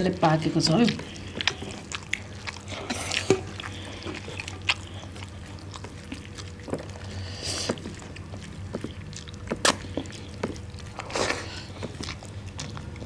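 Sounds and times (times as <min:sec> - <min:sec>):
chewing and mouth smacks: 0:00.4 - 0:13.0
rice squished by fingers: 0:01.0 - 0:13.0.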